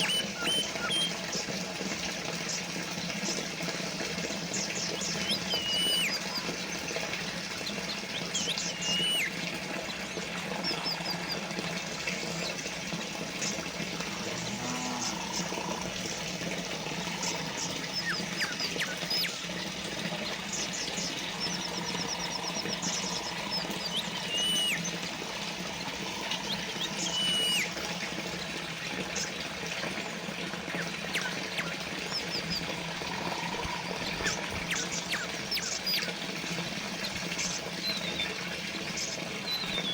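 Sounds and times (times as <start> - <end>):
fountain trickling: 0.0 - 39.9
small birds chirping: 0.0 - 39.9.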